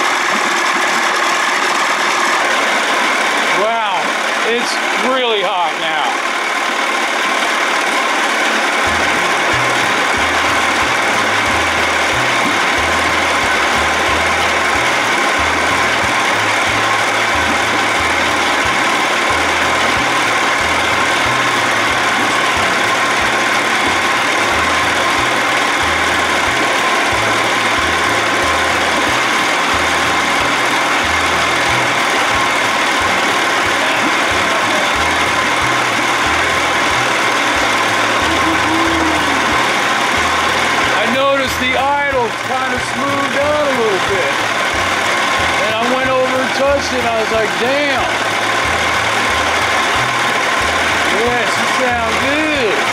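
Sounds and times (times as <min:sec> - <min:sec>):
outboard motor running: 0:00.0 - 0:52.9.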